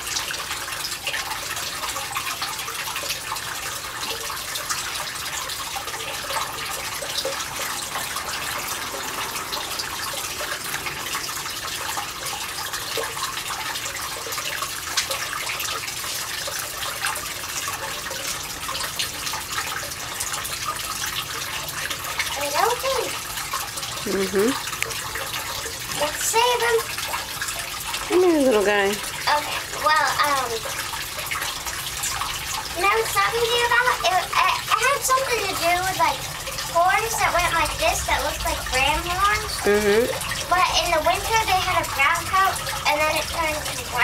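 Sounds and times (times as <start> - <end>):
water running: 0.0 - 44.0.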